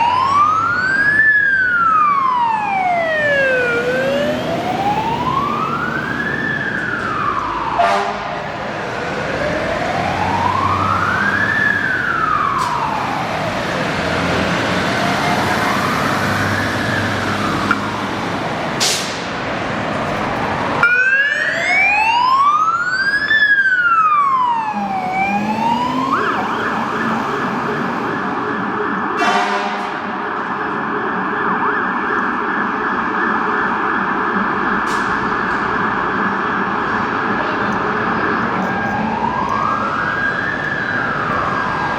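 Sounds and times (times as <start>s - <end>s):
fire engine siren wailing: 0.0s - 41.9s.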